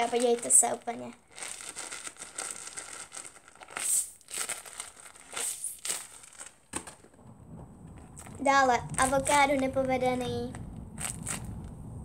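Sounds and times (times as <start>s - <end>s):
paper squishy crinkling: 0.0s - 7.2s, 8.0s - 11.6s.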